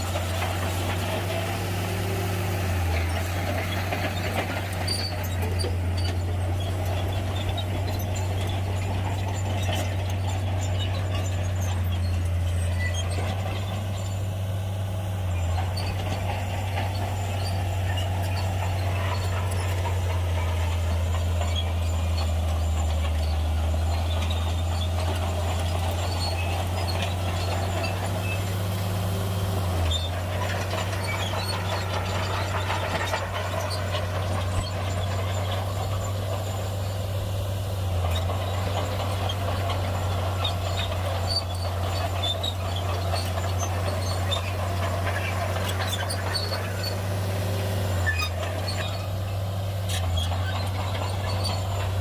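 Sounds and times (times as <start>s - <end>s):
bulldozer diesel engine drone: 0.0s - 52.0s.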